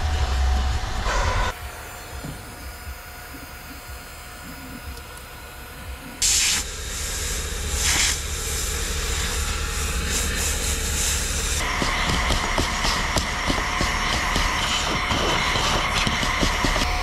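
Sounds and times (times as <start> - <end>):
handheld vacuum cleaner humming: 0.2 - 17.0.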